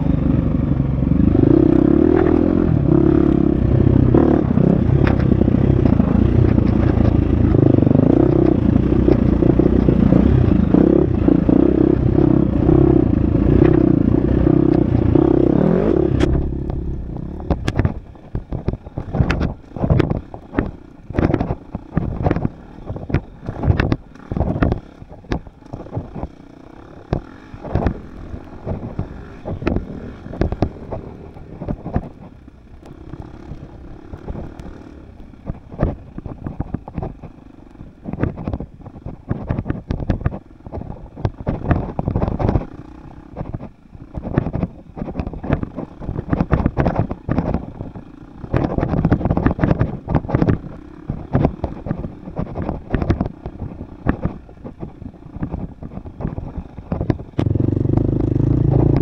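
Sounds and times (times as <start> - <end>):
dirt bike engine running: 0.0 - 59.0
sharp knocks and clatters: 1.5 - 32.4, 33.1 - 59.0.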